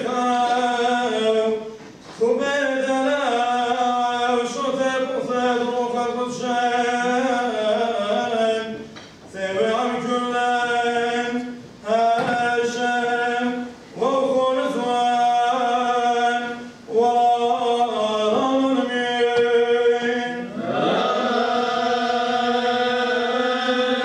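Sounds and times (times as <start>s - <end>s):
man chanting: 0.0s - 24.0s.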